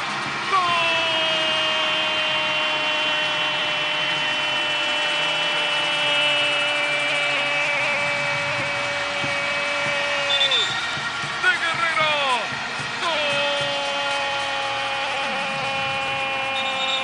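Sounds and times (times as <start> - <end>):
crowd noise: 0.0 - 17.0
commentator's long goal cry: 0.5 - 10.4, 13.0 - 17.0.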